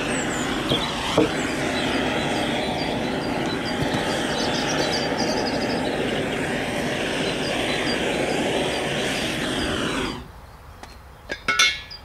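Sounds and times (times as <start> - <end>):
blowtorch flame rushing: 0.0 - 10.4.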